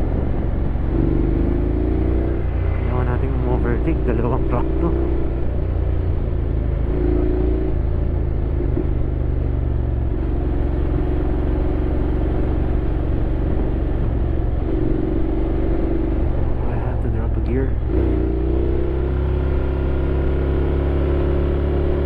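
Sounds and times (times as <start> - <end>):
motorcycle engine running: 0.0 - 22.0
road and wind noise: 0.0 - 22.0.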